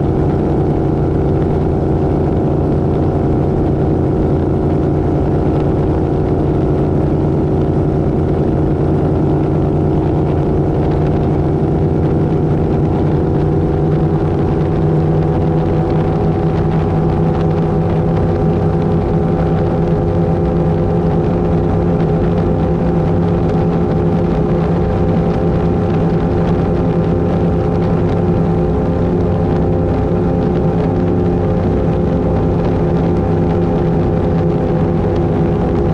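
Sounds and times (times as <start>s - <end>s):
powerboat engines running: 0.0s - 35.9s.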